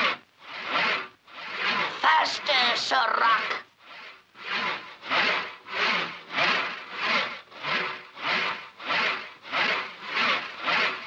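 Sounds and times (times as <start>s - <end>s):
hand saw cutting wood: 0.0s - 11.0s.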